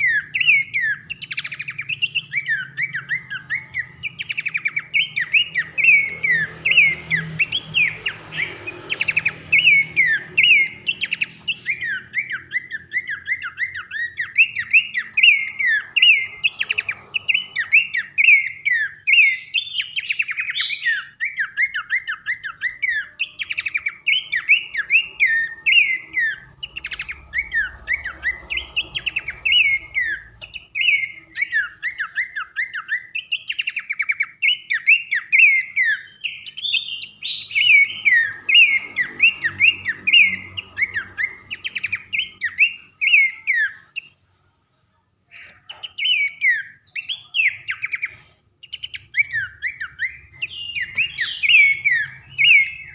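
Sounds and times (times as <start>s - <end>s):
bird singing loud whistles: 0.0s - 44.1s, 45.3s - 52.9s.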